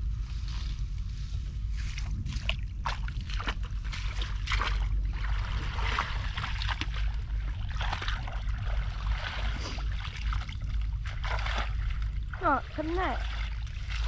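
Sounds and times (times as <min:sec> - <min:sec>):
steady low rumble: 0:00.0 - 0:14.0
shallow water sloshing and splashing: 0:01.7 - 0:14.0.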